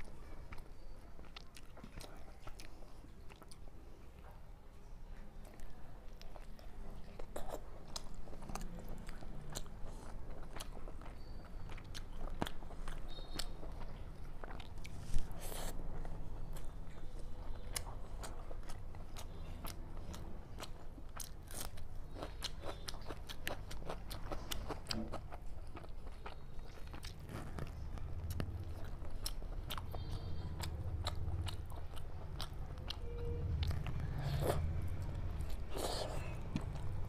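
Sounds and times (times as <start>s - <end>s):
chewing and mouth smacking: 0.0s - 4.4s, 5.1s - 37.0s.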